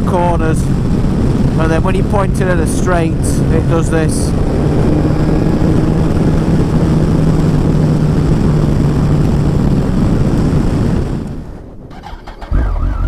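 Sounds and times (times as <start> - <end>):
loud wind rush: 0.0 - 13.0
motorcycle engine accelerating: 0.0 - 13.0.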